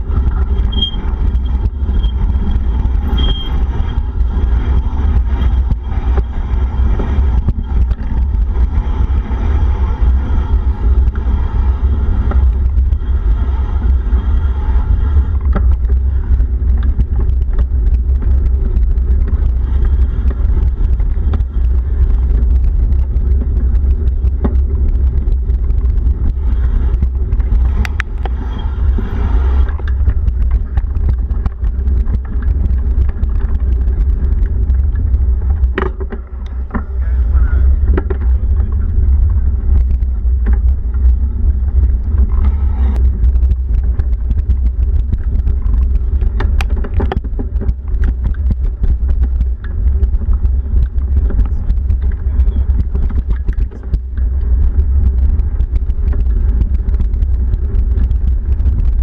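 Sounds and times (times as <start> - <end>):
vehicle rumble: 0.0 - 59.0
faint clicks and knocks: 10.0 - 37.1, 37.7 - 59.0.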